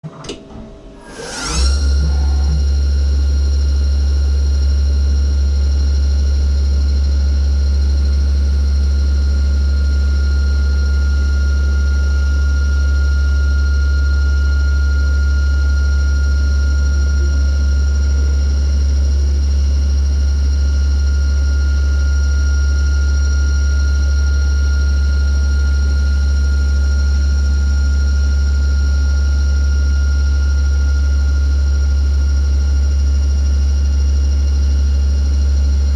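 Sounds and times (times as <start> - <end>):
machine deep hum with whine: 0.0 - 35.9.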